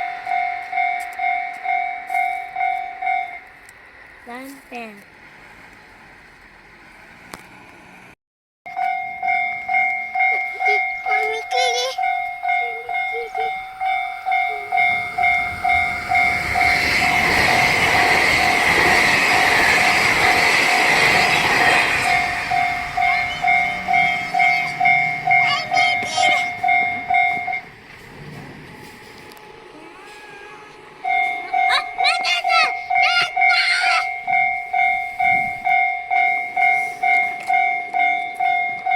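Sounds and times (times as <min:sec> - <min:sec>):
level crossing warning bell: 0:00.0 - 0:03.7, 0:08.7 - 0:38.9
train passing: 0:00.0 - 0:38.9.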